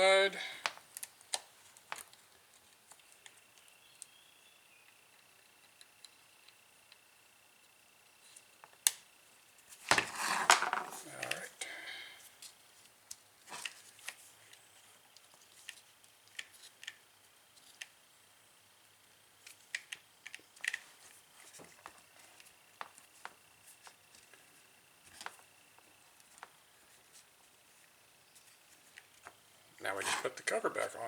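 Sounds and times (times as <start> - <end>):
faint high whine: 2.9 - 31.0.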